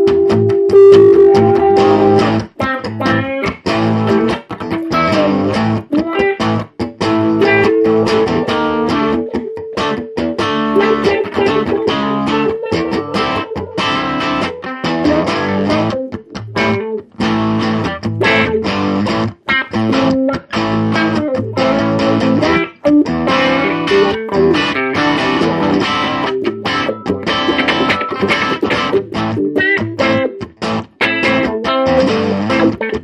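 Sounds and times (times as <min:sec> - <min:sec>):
electric guitars strumming chords: 0:00.0 - 0:33.0.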